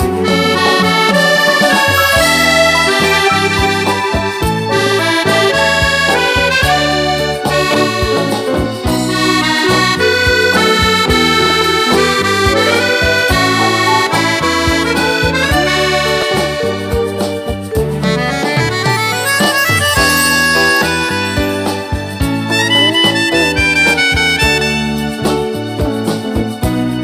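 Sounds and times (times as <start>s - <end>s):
accordion playing a melody: 0.0s - 27.0s
drum kit beat: 0.0s - 27.0s
keyboard: 0.0s - 27.0s.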